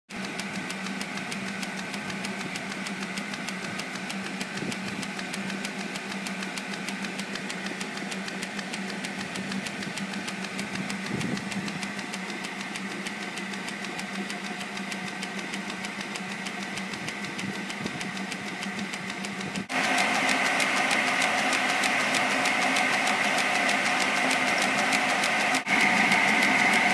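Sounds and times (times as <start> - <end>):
circular saw rig running: 0.2 - 26.9.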